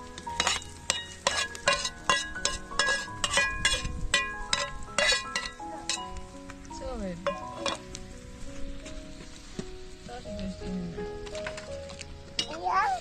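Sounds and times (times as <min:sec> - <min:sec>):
music with plucked notes: 0:00.0 - 0:13.0.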